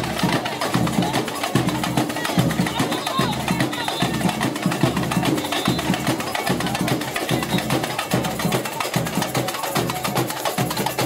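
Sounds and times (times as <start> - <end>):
drum band playing: 0.0 - 11.0.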